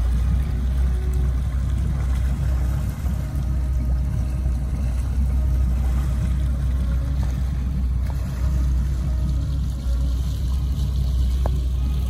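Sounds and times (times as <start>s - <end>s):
motorboat engine rumbling: 0.0s - 12.0s
propeller wash churning: 0.0s - 12.0s.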